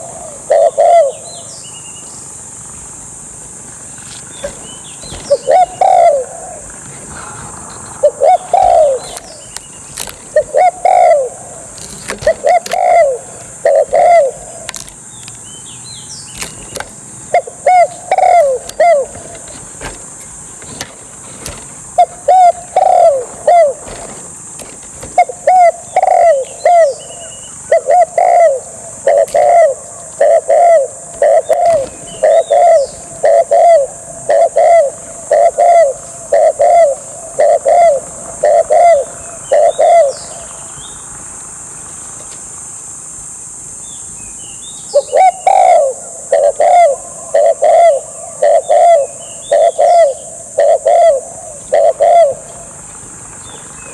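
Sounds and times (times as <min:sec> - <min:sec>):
dove cooing: 0:00.0 - 0:43.4, 0:44.9 - 0:53.9
steady high hiss: 0:00.0 - 0:53.9.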